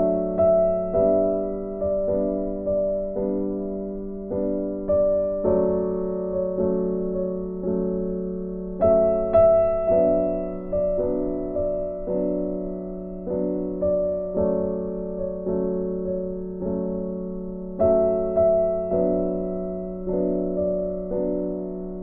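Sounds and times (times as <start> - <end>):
slow gentle piano piece: 0.0 - 22.0.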